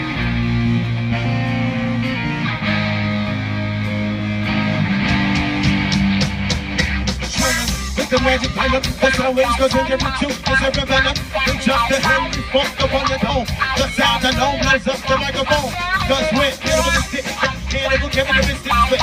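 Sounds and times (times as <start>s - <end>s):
drum kit: 0.0s - 19.0s
electric bass: 0.0s - 19.0s
electric guitar: 0.0s - 19.0s.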